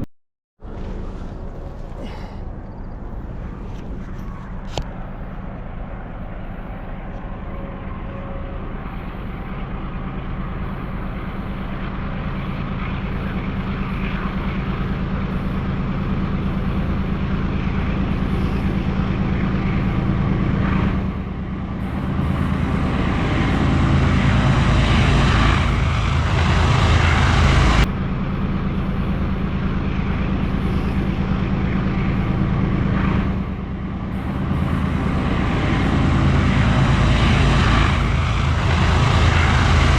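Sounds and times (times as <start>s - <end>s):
locomotive engine drone: 0.0s - 39.9s
train rushing noise: 0.6s - 39.9s.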